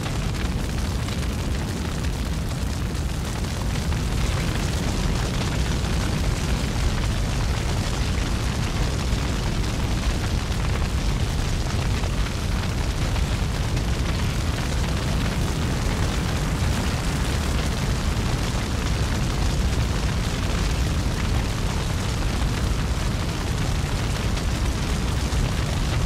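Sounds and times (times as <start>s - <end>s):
deep rumble with hiss: 0.0s - 26.0s.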